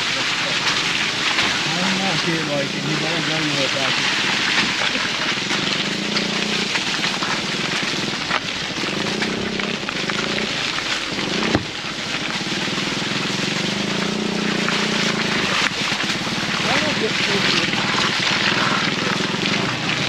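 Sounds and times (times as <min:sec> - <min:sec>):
car engine drone: 0:00.0 - 0:20.0
tyre and road noise: 0:00.0 - 0:20.0.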